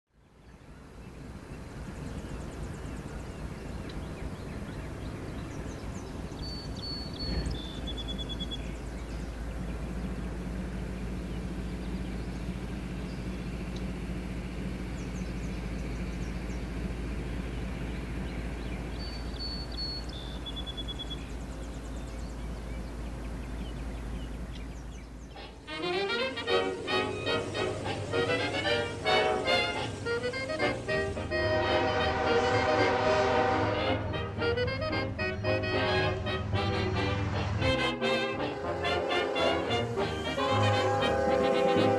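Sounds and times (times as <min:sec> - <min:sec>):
low outdoor rumble: 0:00.1 - 0:41.9.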